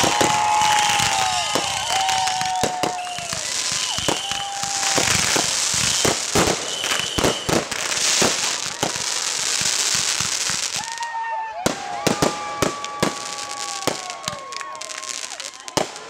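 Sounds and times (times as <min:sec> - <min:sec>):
firework bangs and pops: 0:00.0 - 0:11.0, 0:11.7 - 0:16.0
firework crackling: 0:00.0 - 0:11.1, 0:11.7 - 0:16.0
firework whistles: 0:00.0 - 0:16.0.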